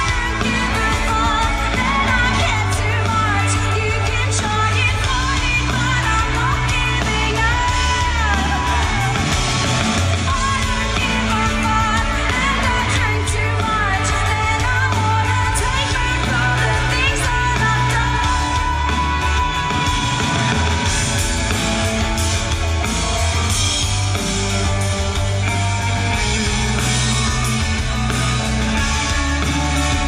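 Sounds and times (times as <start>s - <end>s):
person singing: 0.0s - 30.0s
rock band playing live: 0.0s - 30.0s.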